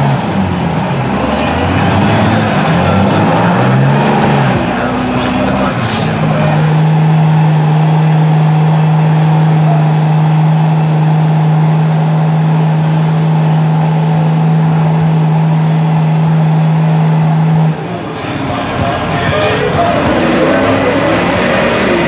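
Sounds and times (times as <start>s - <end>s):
diesel truck engine revving: 0.0s - 22.0s
tires churning in mud: 0.0s - 22.0s.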